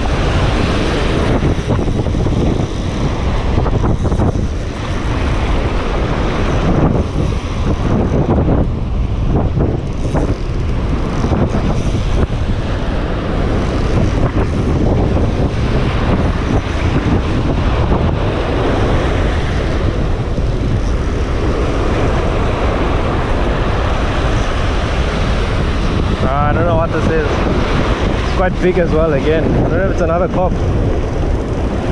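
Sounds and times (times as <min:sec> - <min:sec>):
strong wind buffeting microphone: 0:00.0 - 0:31.9
waves breaking on shore: 0:00.0 - 0:31.9.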